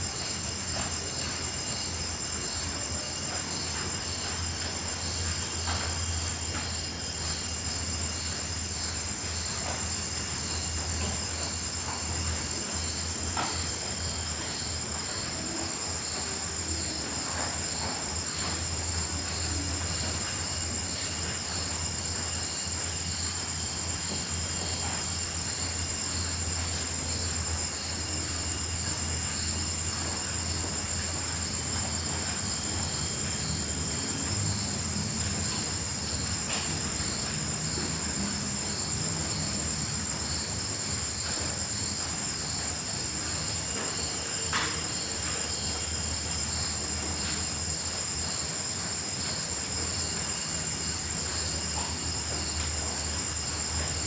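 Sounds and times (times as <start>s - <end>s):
cricket high-pitched trill: 0.0s - 54.0s.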